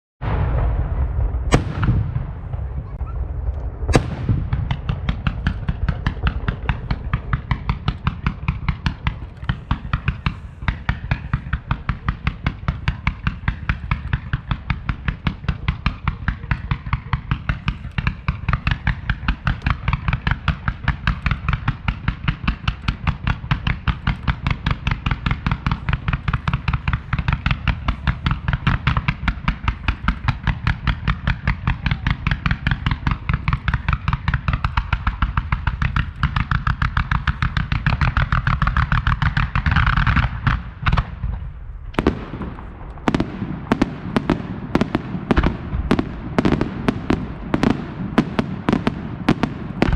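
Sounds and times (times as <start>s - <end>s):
firecracker bangs: 0.2s - 49.9s.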